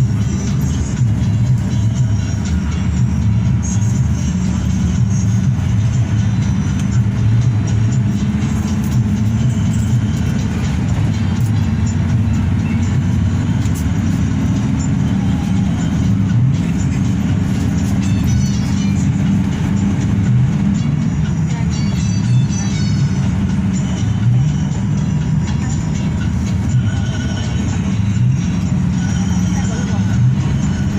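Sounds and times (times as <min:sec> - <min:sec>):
bus diesel engine drone: 0:00.0 - 0:30.9.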